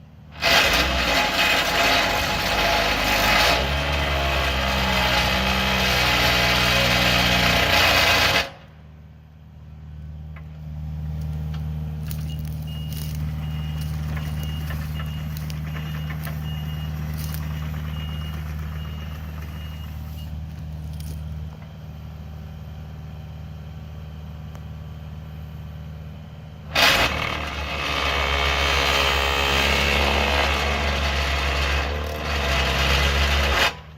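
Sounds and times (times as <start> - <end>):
excavator engine running: 0.0 - 33.9.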